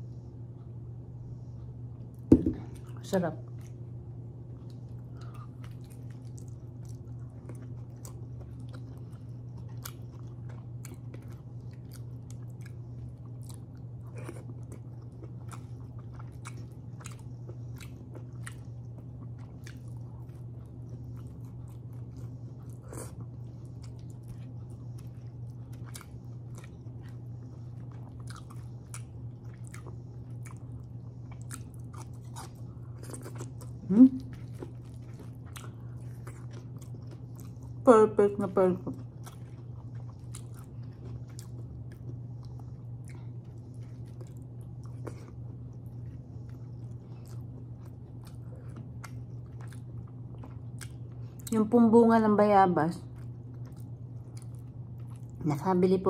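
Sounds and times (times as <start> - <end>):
steady low hum: 0.0 - 56.0
wet chewing clicks and smacks: 4.5 - 37.8, 38.9 - 51.6, 53.1 - 55.4.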